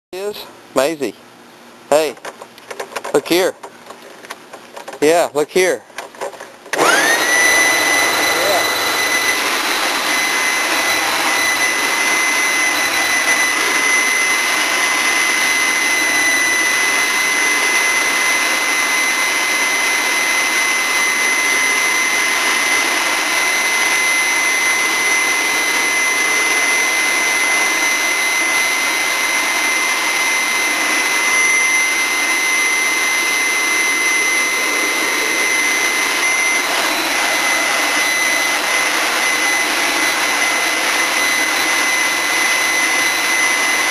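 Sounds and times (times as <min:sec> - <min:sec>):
leaf blower running: 0:06.4 - 0:43.9.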